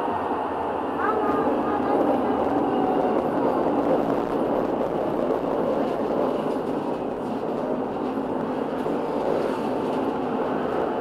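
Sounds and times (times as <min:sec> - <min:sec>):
tram wheels on rails: 0:00.0 - 0:11.0.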